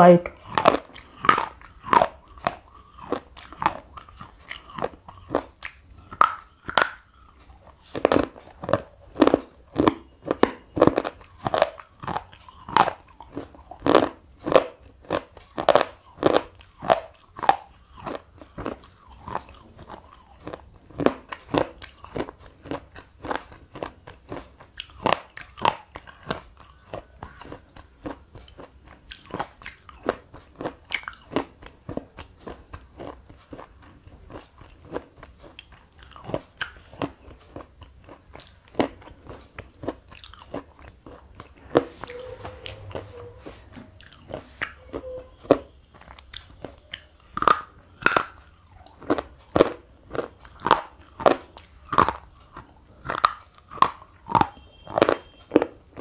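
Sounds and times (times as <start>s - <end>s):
pencil being chewed crunching: 0.3s - 44.9s, 46.0s - 55.8s.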